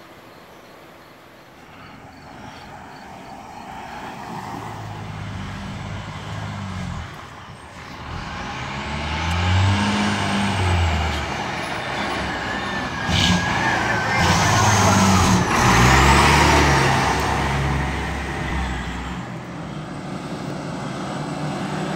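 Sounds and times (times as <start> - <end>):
fire engine approaching: 0.0 - 21.9.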